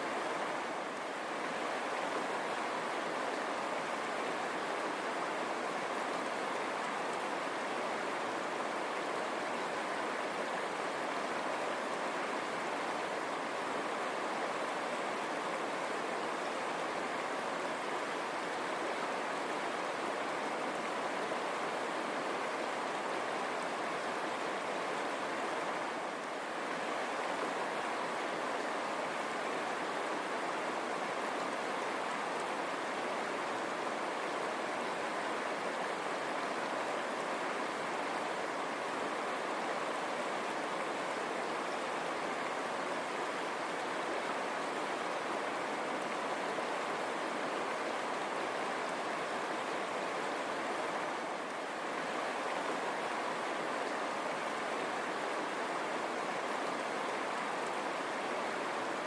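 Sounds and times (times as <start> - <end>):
river water over stones: 0.0 - 59.0.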